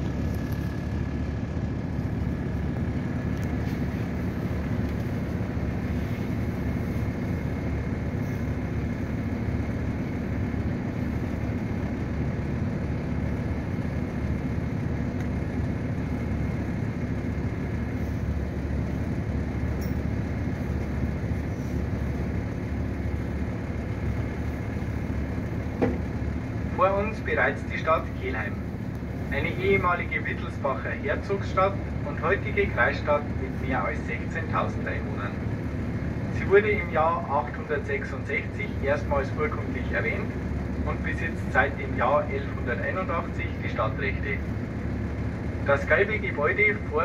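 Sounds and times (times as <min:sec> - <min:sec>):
boat engine drone: 0:00.0 - 0:47.0.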